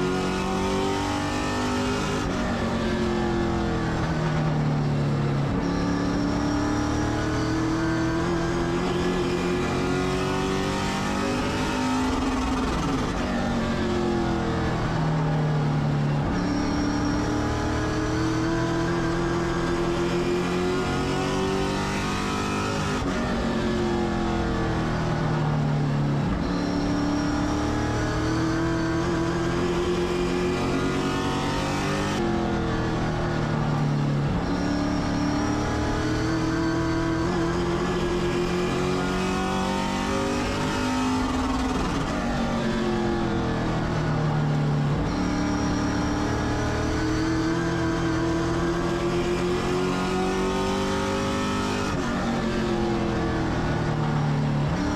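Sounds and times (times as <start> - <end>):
race car engine revving: 0.0 - 54.9.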